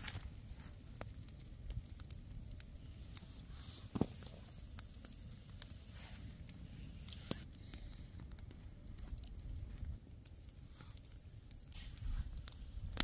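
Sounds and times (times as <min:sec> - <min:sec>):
sharp fire pops: 0:00.0 - 0:09.6, 0:10.2 - 0:13.0
campfire crackling: 0:00.0 - 0:13.0.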